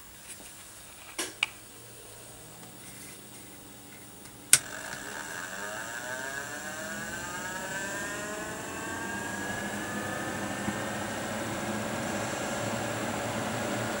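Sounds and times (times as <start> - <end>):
fan motor whine spinning up: 1.6 - 14.0.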